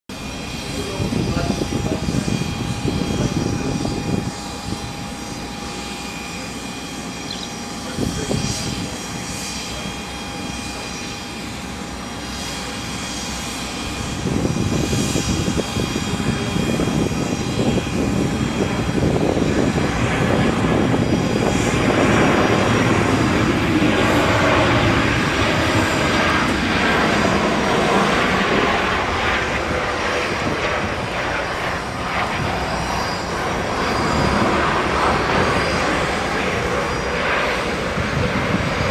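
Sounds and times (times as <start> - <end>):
jet engines whine and roar: 0.0 - 38.9.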